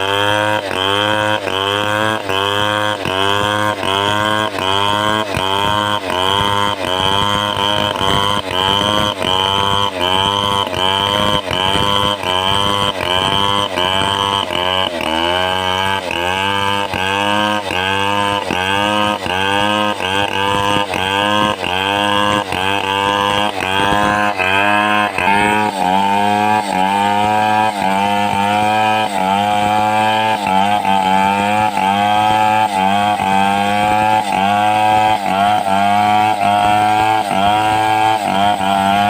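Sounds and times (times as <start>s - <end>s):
chainsaw ripping timber: 0.0s - 39.0s.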